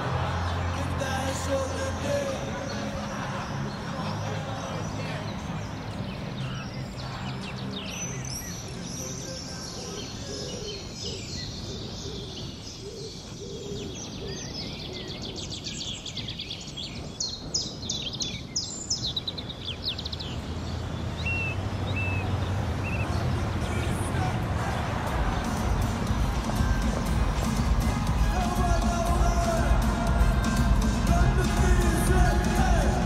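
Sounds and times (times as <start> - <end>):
outdoor ambience: 0.0 - 33.0
songbirds chirping and trilling: 0.0 - 33.0.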